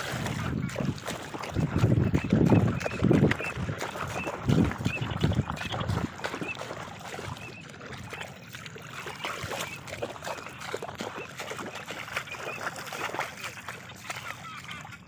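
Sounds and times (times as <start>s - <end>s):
water sloshing and dripping: 0.0s - 15.0s.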